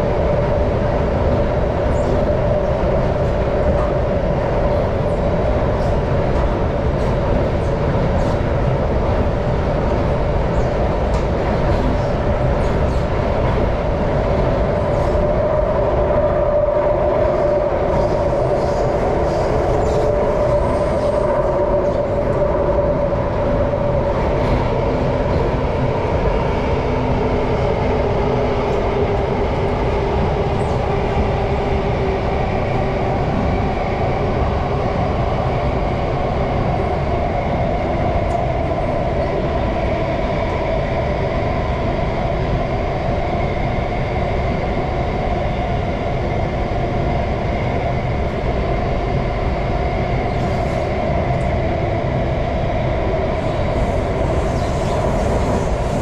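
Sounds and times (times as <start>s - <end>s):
train rumbling with hum: 0.0s - 56.0s.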